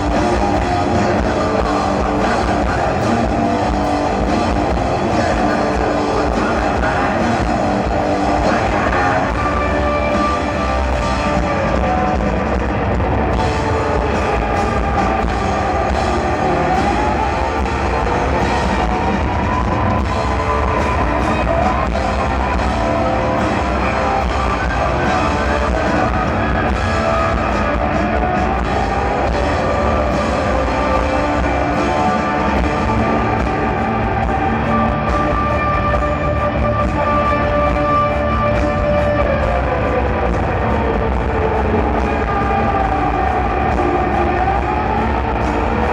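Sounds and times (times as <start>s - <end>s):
distorted guitar: 0.0s - 45.9s
drums: 0.0s - 45.9s.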